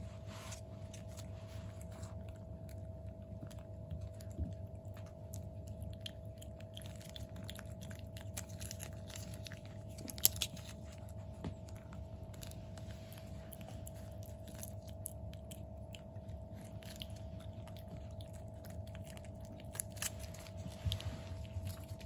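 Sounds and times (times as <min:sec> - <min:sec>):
kittens chewing and lapping: 0:00.0 - 0:22.0.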